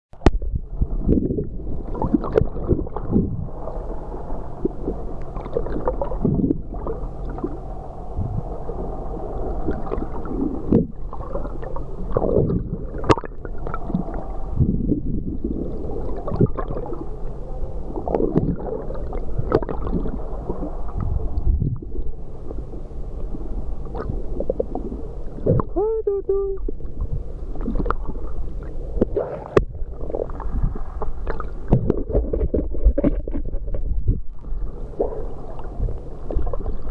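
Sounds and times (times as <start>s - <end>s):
seawater sloshing and gurgling: 0.2s - 25.8s, 26.6s - 36.9s
steady low hum: 0.2s - 36.9s.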